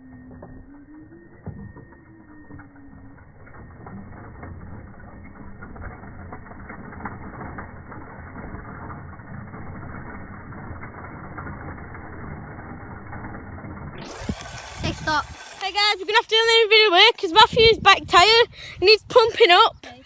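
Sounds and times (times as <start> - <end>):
bicycle freewheel ticking: 0.0 - 18.7.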